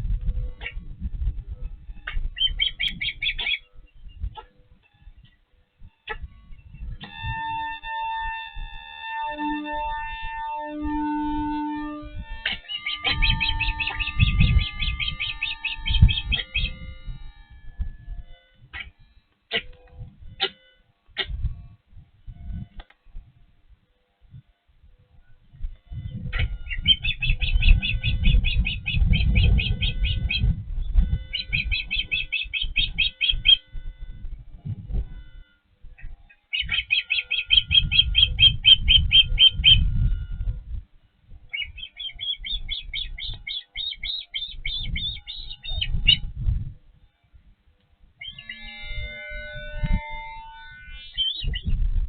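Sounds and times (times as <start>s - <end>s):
osprey chirping: 0.6s - 21.7s, 25.5s - 40.8s, 41.4s - 46.6s, 48.2s - 52.0s.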